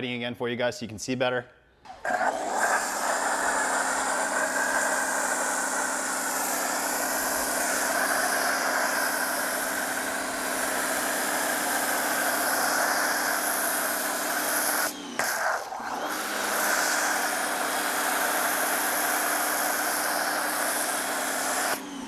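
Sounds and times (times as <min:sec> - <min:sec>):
pressure washer motor hum: 0:01.9 - 0:22.0
foam spray hissing: 0:02.0 - 0:15.8, 0:16.4 - 0:21.8.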